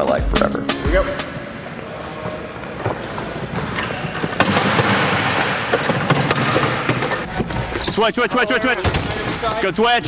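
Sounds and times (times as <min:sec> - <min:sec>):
wheelchairs rolling and clashing: 0:01.6 - 0:09.8.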